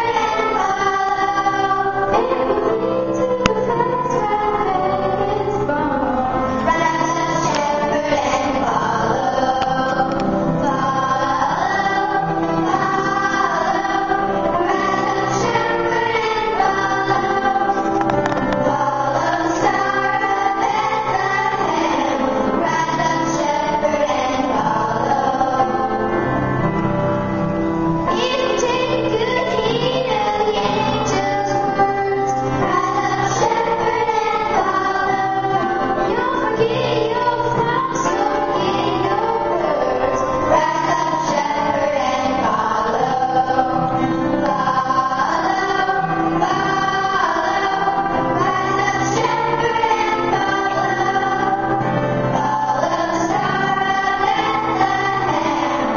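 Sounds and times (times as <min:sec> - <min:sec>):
children's choir singing: 0:00.0 - 0:55.9.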